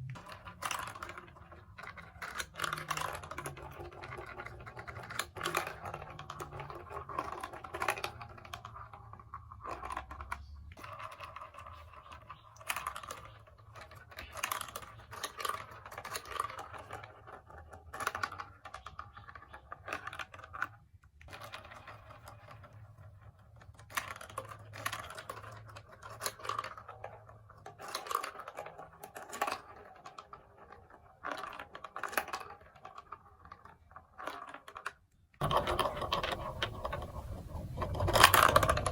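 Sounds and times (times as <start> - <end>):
plastic marble run clattering: 0.0 - 38.9.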